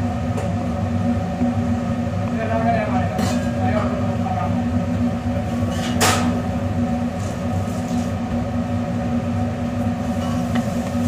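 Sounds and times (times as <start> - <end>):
kitchen machinery hum: 0.0 - 11.0.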